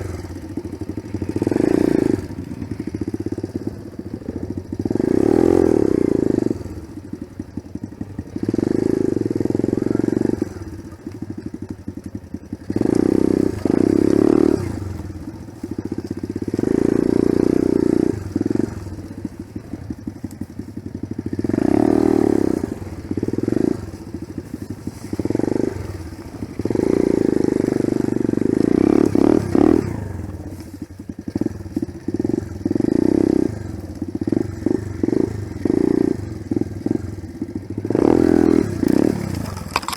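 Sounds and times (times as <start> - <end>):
off-road motorcycle engine revving: 0.0 - 39.9.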